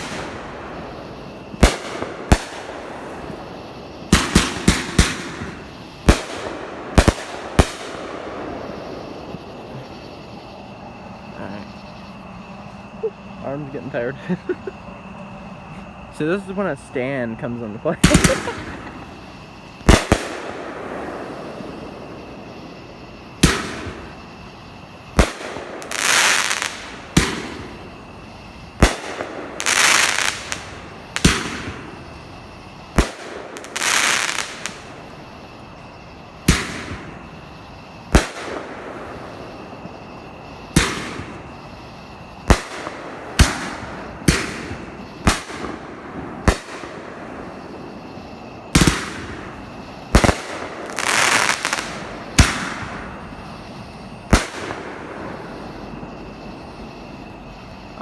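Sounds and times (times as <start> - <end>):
fireworks bangs: 0.0 - 10.7, 16.2 - 57.0
fireworks rushing bursts: 0.0 - 58.0.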